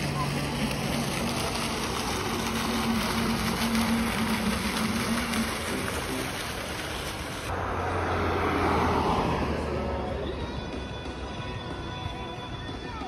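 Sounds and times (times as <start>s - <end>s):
fountain water splashing: 0.0s - 13.0s
street traffic rumble: 0.0s - 13.0s.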